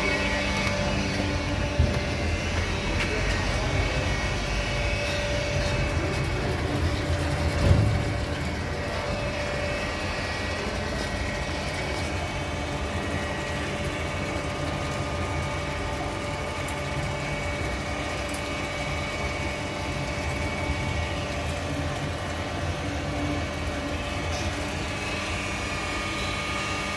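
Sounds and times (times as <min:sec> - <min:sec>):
filter machine humming: 0:00.0 - 0:26.9.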